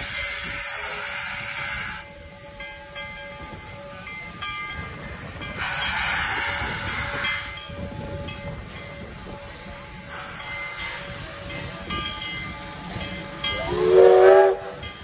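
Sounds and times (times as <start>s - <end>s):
steam hissing: 0.0s - 2.9s, 5.0s - 15.0s
steam locomotive rumbling: 0.0s - 15.0s.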